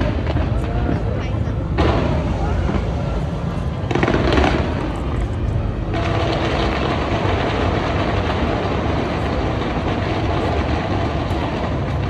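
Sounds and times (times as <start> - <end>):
fireworks barrage crackling: 0.0 - 12.0.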